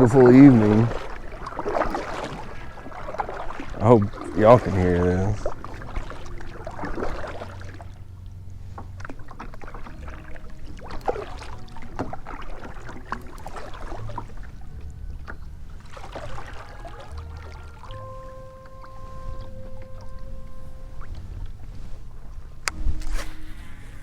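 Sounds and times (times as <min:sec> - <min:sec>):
faint piano notes: 0:00.0 - 0:24.0
waves lapping against kayak hull: 0:00.0 - 0:24.0.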